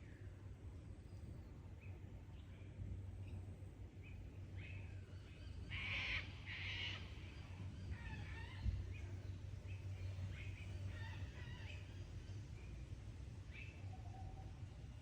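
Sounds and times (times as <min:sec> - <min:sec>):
bird chirps and warbles: 0:01.1 - 0:15.0.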